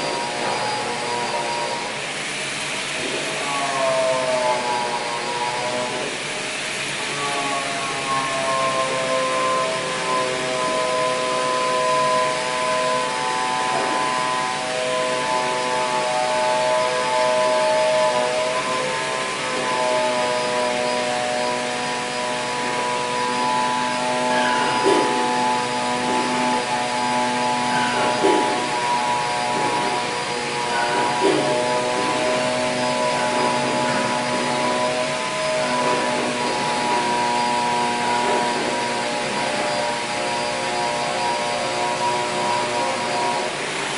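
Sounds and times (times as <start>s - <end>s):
cnc machine whining: 0.0s - 43.9s
hiss: 0.0s - 43.9s.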